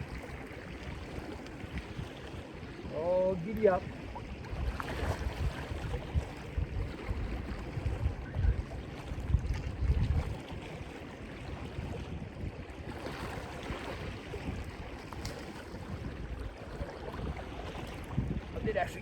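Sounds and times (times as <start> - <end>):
surf washing: 0.0 - 19.0
wind buffeting microphone: 0.0 - 19.0.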